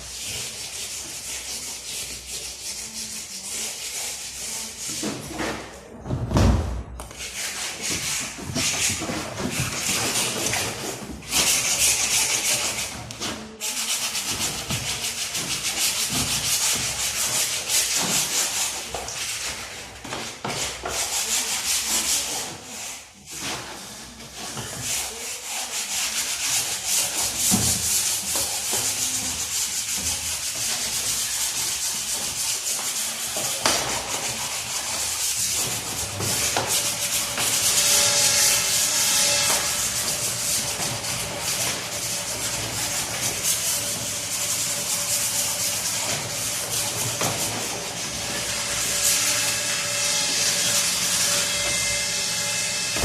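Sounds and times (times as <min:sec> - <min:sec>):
hand scrubbing: 0:00.0 - 0:05.3, 0:07.1 - 0:49.5.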